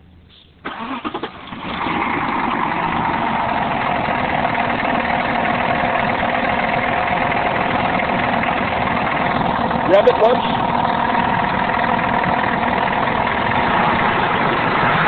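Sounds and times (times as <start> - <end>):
car engine starting and idling: 0.0 - 15.0
loud engine knock: 2.0 - 14.9.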